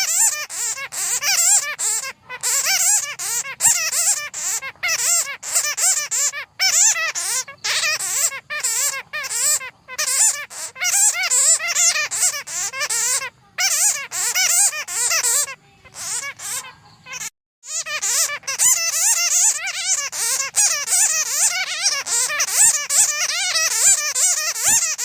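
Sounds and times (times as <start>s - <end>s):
bats squeaking and chattering: 0.0s - 25.0s.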